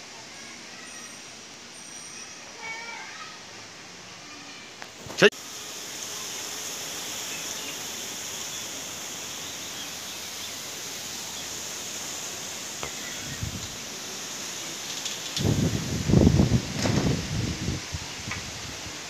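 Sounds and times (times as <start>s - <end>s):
wind rustling leaves: 0.0s - 19.0s.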